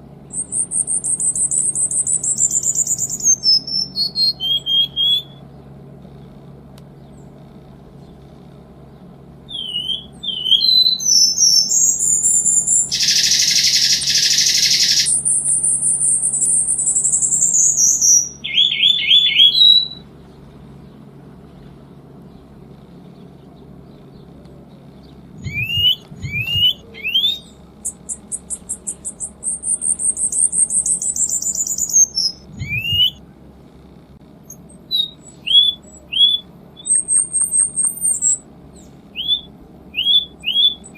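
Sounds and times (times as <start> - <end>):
bird singing trills: 0.0 - 5.9, 6.9 - 21.2, 22.0 - 33.2, 34.5 - 40.9.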